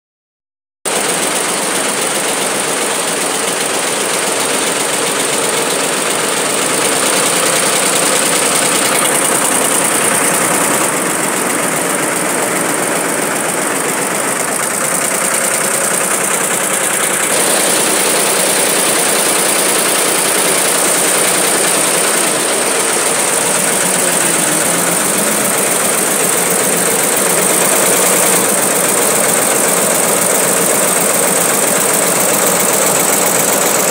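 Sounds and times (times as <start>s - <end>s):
embroidery machine running: 0.9s - 33.9s.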